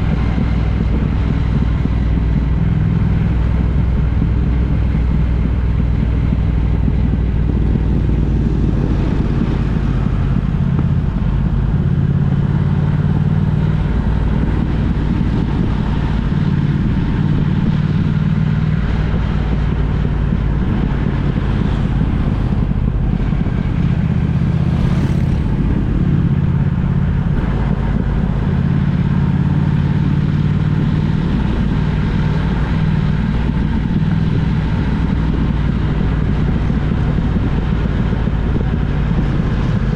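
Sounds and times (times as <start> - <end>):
road and wind noise: 0.0 - 39.9
vehicle engine drone: 0.0 - 39.9.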